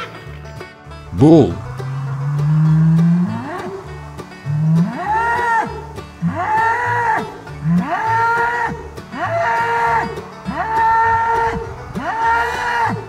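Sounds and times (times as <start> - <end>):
bull bellowing: 1.1 - 13.0.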